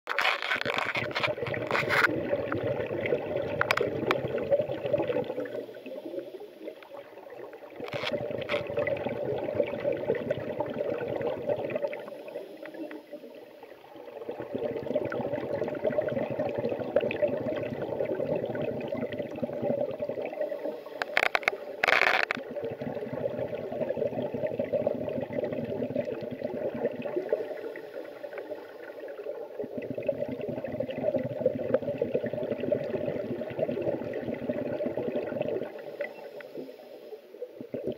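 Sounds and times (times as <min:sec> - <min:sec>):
bubbling exhaust underwater: 0:00.1 - 0:37.9.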